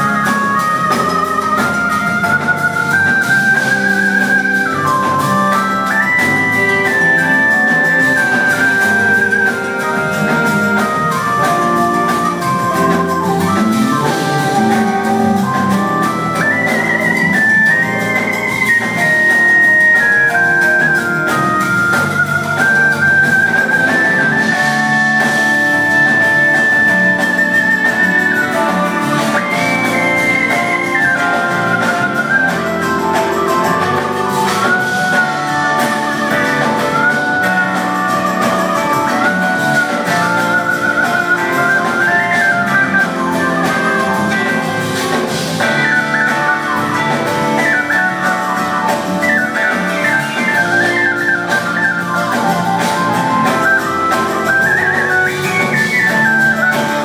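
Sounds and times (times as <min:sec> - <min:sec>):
live band playing: 0:00.0 - 0:57.0
organ solo: 0:00.0 - 0:57.0.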